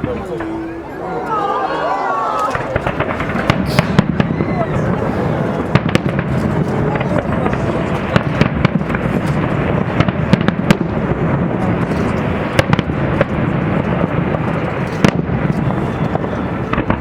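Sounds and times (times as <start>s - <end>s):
fireworks bangs and cracks: 2.4s - 17.0s.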